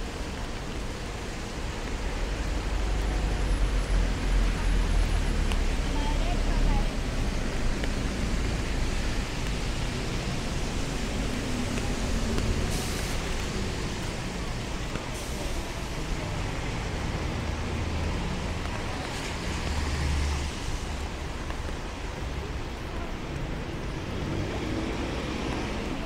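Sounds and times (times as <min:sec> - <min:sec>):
tyres hissing on wet road: 0:00.0 - 0:26.0.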